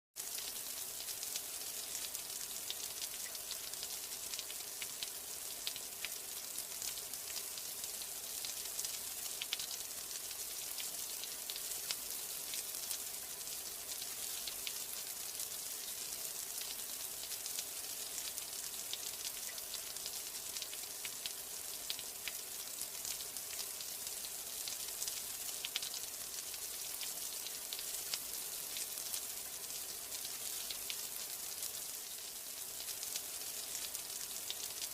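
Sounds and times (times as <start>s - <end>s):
rain hiss: 0.2s - 34.9s.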